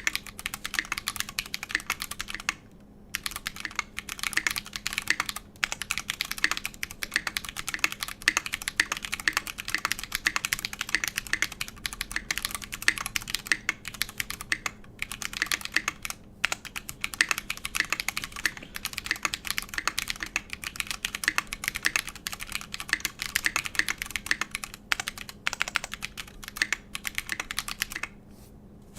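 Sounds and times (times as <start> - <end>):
mechanical keyboard typing: 0.0 - 28.2.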